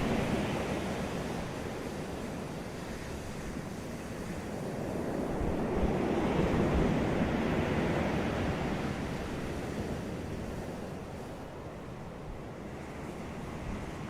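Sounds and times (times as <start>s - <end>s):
ocean waves breaking on beach: 0.0s - 14.0s.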